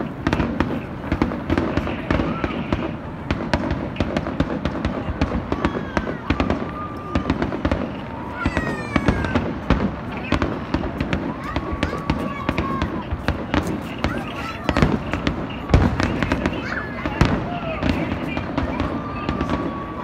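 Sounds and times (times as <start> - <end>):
crowd voices: 0.0 - 20.0
fireworks bangs and crackles: 0.0 - 20.0.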